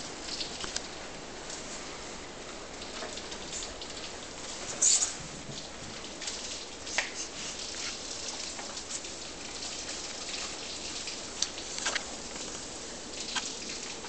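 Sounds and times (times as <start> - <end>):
sharp drips: 0.0 - 14.0
steady rain falling: 0.0 - 14.0.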